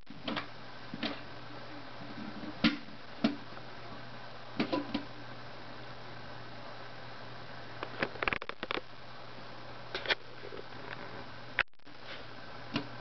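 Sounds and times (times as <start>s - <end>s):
faint steady hum: 0.1s - 13.0s.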